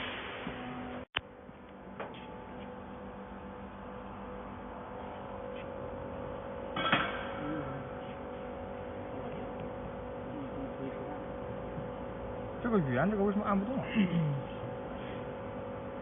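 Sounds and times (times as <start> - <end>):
steady tone in hum: 0.0 - 16.0.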